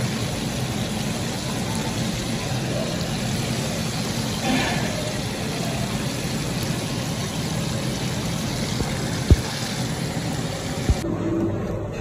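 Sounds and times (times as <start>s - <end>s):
food deep-frying in hot oil: 0.0s - 11.0s.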